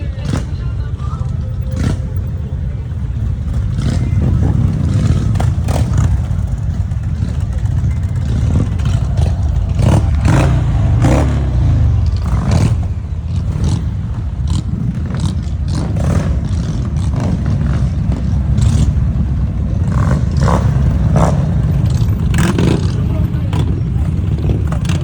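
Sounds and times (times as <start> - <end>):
motorcycle engines rumbling: 0.0 - 25.0.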